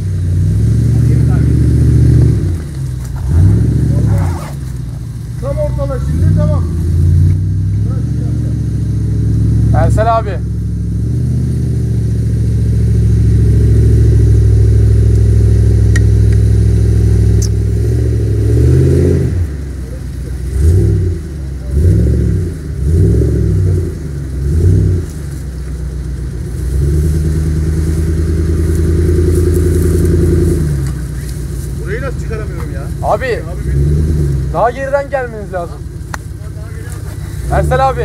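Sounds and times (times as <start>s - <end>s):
engine revving under load: 0.0s - 38.0s.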